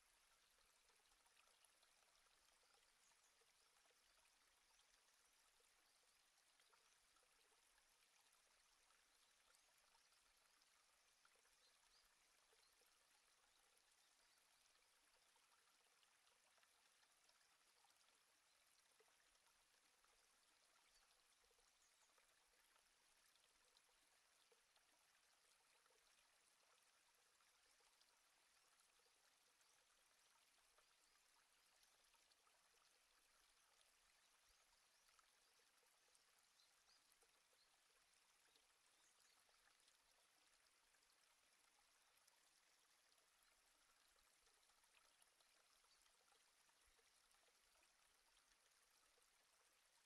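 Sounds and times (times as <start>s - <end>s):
faint hiss: 0.0s - 50.0s.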